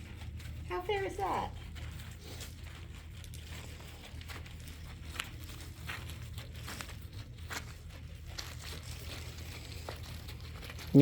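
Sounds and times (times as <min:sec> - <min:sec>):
low steady hum: 0:00.0 - 0:11.0
rustling of dry material: 0:00.0 - 0:11.0.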